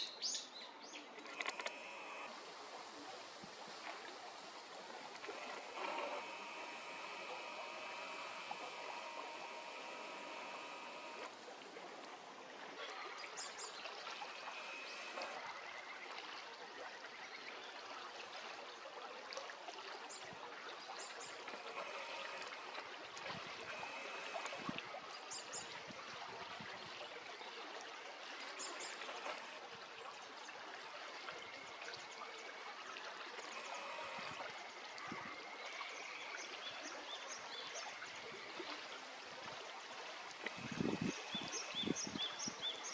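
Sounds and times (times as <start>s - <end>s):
stream water flowing: 0.0s - 42.9s.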